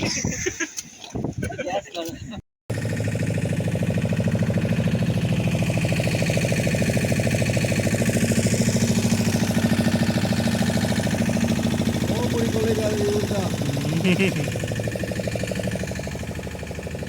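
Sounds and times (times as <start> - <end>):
boat engine pulsing: 1.9 - 17.0.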